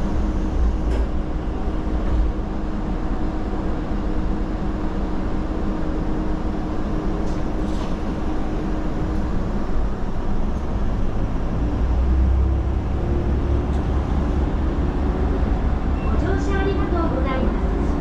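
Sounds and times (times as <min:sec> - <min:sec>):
diesel railcar engine rumble: 0:00.0 - 0:18.0.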